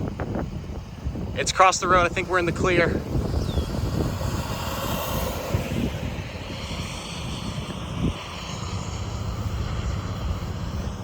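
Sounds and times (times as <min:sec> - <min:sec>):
tornado rumbling roar: 0:00.0 - 0:11.0
wind: 0:00.0 - 0:11.0.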